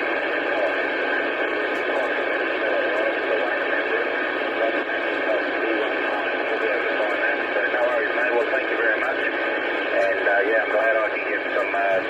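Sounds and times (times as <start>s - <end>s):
radio static hiss: 0.0s - 12.0s
weak distant voice on radio: 0.0s - 12.0s.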